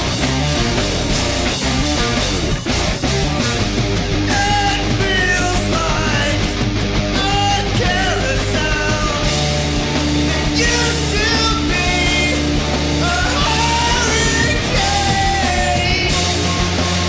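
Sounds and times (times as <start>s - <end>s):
loud rock band music: 0.0s - 17.0s.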